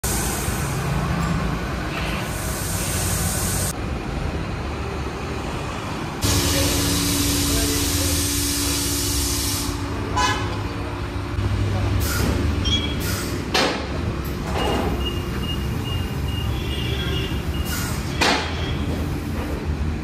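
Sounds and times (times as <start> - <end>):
workshop hissing: 0.0 - 20.0.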